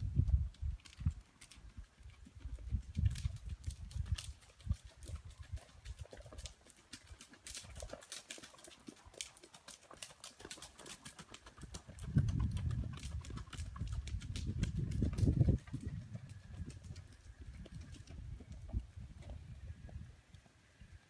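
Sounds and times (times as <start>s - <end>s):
horse hoofbeats clip-clopping: 0.0s - 21.0s.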